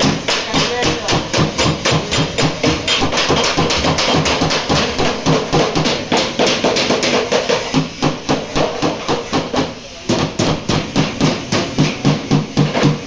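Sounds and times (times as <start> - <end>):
hammer beating steel panel: 0.0 - 13.0.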